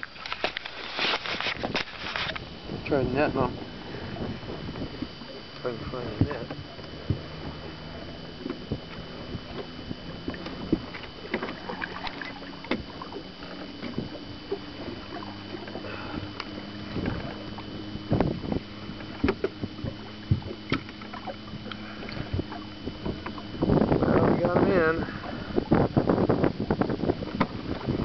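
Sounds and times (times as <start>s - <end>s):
boat motor humming: 0.0s - 28.0s
knocks and clatter in a boat: 0.0s - 28.0s
water splashing: 0.0s - 28.0s.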